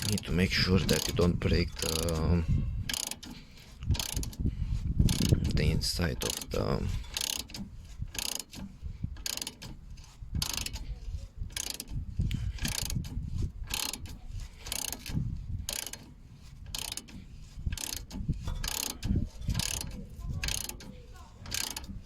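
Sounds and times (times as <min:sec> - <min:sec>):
socket wrench ratcheting: 0:00.0 - 0:22.0.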